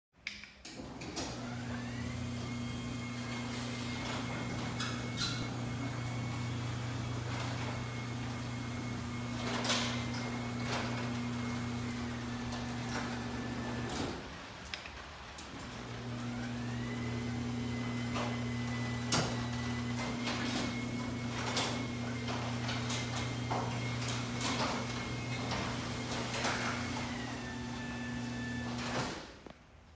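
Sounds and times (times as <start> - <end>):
garage door opener motor hum: 0.6 - 29.4
door rollers clicking: 0.7 - 29.4.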